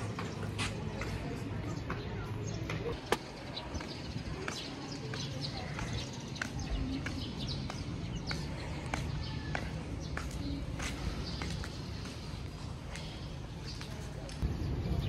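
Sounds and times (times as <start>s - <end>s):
birds chirping: 0.0s - 15.0s
faint voices: 0.0s - 15.0s.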